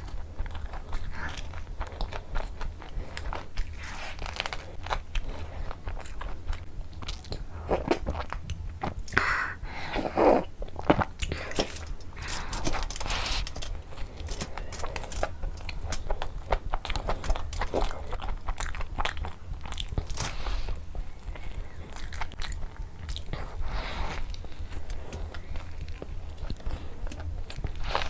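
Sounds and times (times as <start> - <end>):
crunching and chewing food: 0.0 - 9.3, 9.9 - 28.0.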